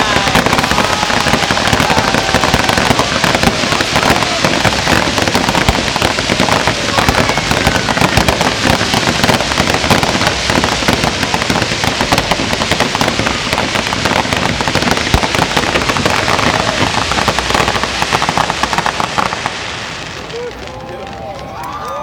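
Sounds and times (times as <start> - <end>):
fireworks fountain crackling: 0.0 - 22.0.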